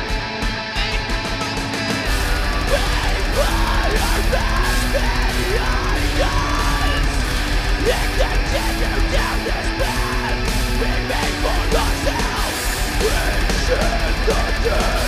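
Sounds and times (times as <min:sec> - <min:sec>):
heavy rock band music: 0:00.0 - 0:15.0
lead guitar bending pitch: 0:02.0 - 0:15.0.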